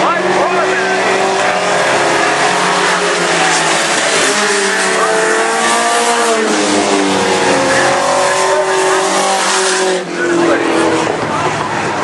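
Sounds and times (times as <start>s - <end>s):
racing truck engines: 0.0s - 12.0s.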